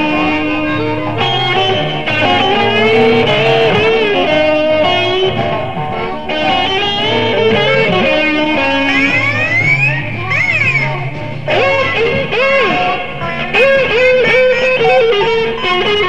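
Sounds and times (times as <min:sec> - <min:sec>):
electric guitar lead: 0:00.0 - 0:16.0
walking bass line: 0:00.0 - 0:16.0.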